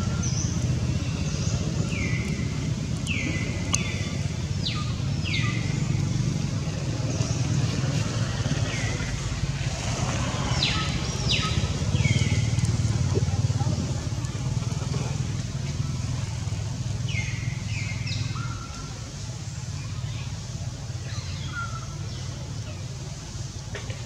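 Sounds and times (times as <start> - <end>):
low rumble of distant traffic: 0.0 - 24.0.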